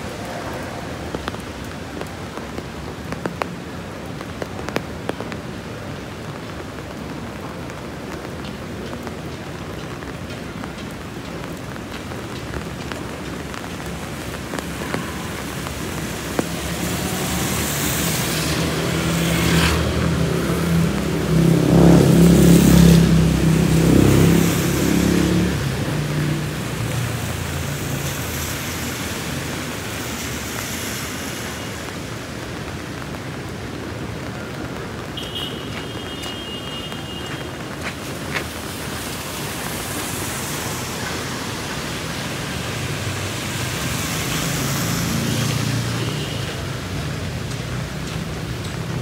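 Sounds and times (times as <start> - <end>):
steady rain: 0.0 - 49.0.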